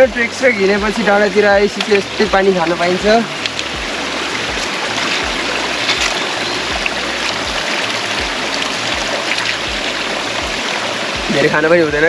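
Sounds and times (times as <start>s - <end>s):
stream running and splashing: 0.0s - 12.0s.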